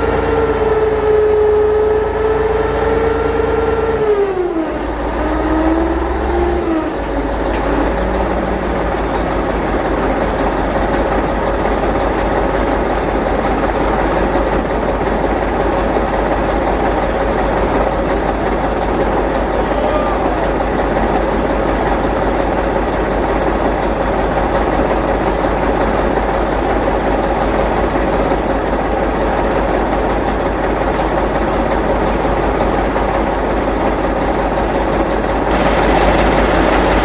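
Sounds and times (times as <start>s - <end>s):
heavy vehicle engine running: 0.0s - 37.0s.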